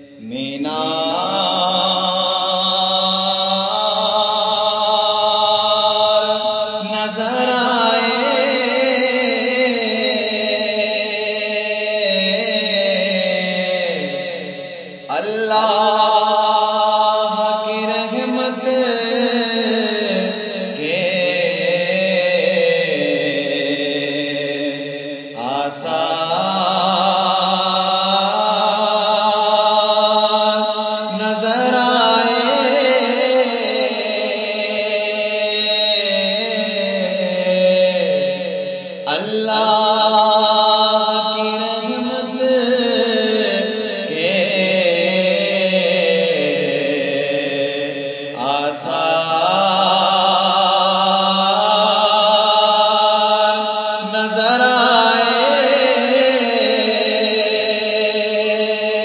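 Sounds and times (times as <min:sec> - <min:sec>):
man chanting devotional song: 0:00.0 - 0:59.0
man singing with held notes: 0:00.0 - 0:59.0.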